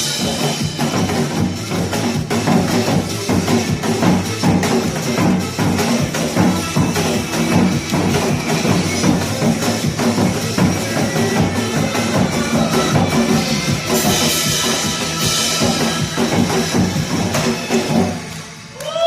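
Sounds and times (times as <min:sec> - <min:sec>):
hourglass drums fast rhythm: 0:00.0 - 0:18.6
backing music: 0:00.0 - 0:19.0.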